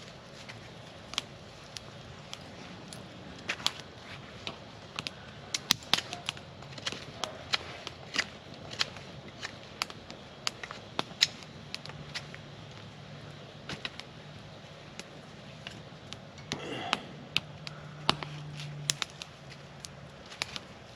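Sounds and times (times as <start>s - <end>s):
campfire crackling: 0.0s - 20.9s
sharp pops of burning wood: 0.4s - 20.9s.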